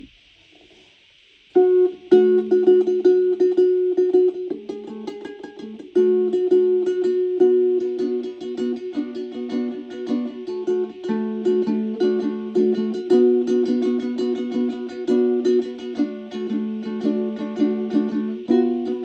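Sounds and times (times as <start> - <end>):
faint hiss: 0.0 - 19.0
plucked string instrument: 1.6 - 19.0.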